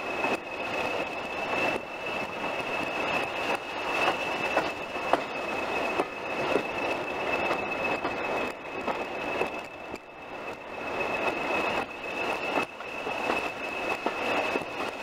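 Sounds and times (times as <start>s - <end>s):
diesel locomotive running: 0.0s - 15.0s
steady high whistle: 0.0s - 15.0s
wheels clicking on rails: 0.0s - 15.0s.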